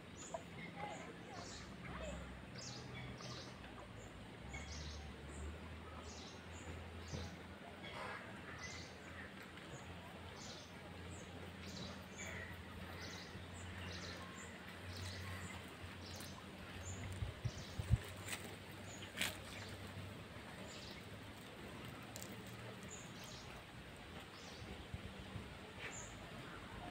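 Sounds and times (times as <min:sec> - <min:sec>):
small birds chirping: 0:00.0 - 0:26.6.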